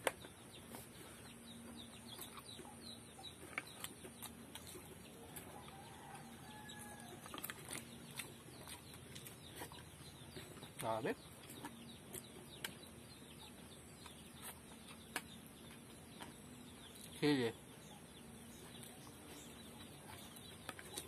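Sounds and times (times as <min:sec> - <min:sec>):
rapid bird chirps: 0:00.0 - 0:21.0.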